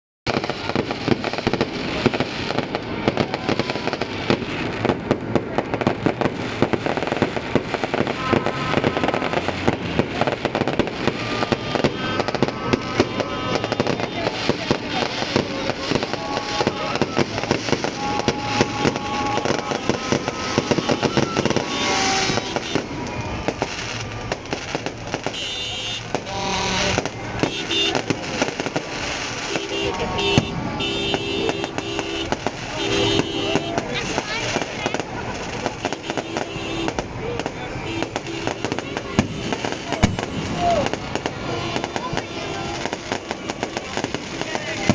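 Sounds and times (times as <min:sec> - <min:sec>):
fireworks popping and crackling: 0:00.3 - 0:44.9.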